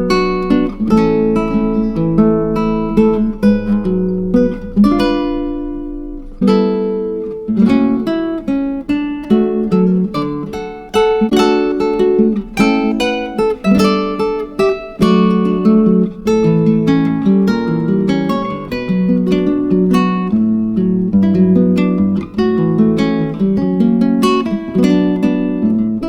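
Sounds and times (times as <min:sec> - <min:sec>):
acoustic guitar strumming and plucking: 0:00.0 - 0:26.0.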